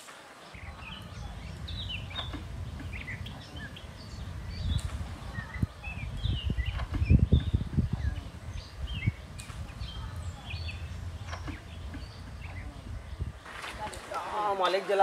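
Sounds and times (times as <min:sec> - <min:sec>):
small birds chirping: 0:00.2 - 0:15.0
steady low rumble: 0:00.6 - 0:14.1.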